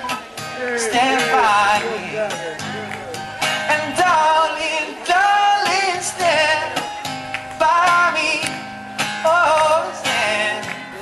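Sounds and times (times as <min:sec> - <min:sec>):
instrumental backing: 0:00.0 - 0:11.0.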